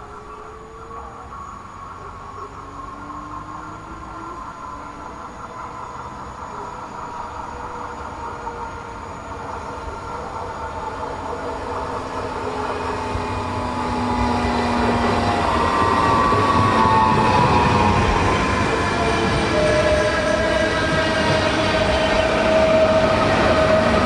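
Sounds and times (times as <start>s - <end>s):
train running rumble: 1.6s - 24.0s.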